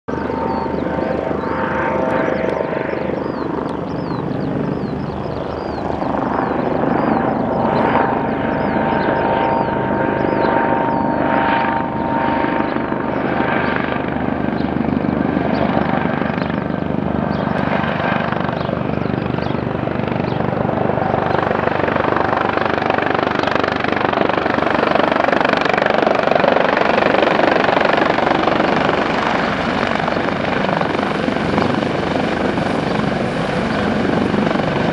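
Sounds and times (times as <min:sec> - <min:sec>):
helicopter rotor beat: 0:00.1 - 0:34.9
helicopter turbine whine: 0:00.1 - 0:34.9.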